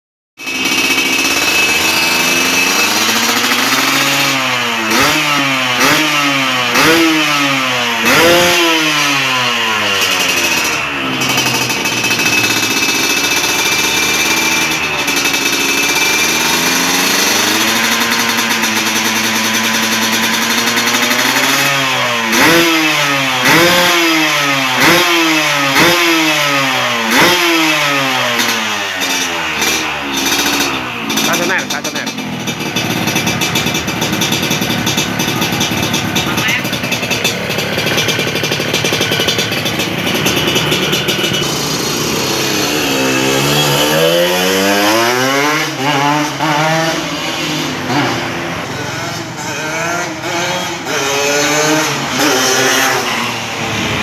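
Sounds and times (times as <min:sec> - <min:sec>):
two-stroke motorcycle engine revving: 0:00.4 - 0:54.0.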